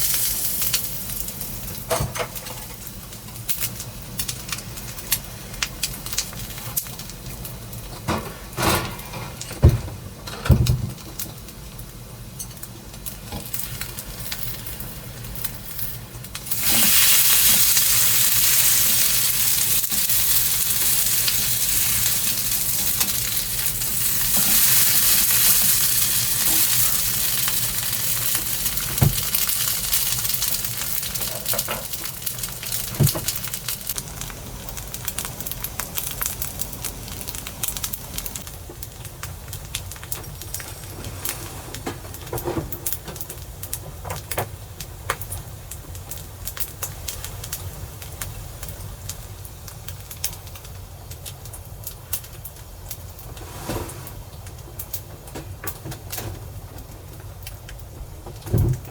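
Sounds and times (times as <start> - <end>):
food sizzling in a frying pan: 0.0 - 7.9, 11.1 - 42.2, 42.9 - 55.0.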